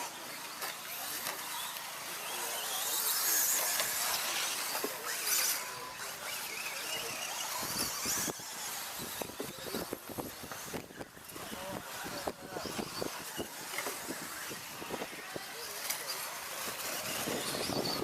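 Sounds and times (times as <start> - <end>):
toy truck motors whining: 0.0 - 18.0.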